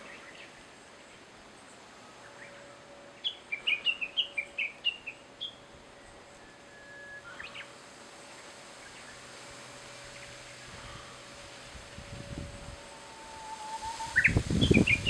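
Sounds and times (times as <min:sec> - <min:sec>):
bird singing: 0:00.0 - 0:09.3, 0:10.0 - 0:15.0.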